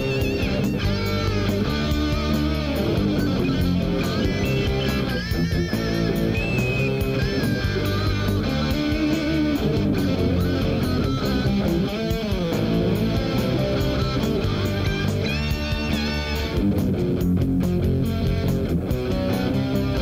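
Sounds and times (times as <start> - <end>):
bass guitar: 0.0 - 20.0
electric guitar lead: 0.0 - 20.0
steady drum beat: 0.0 - 20.0.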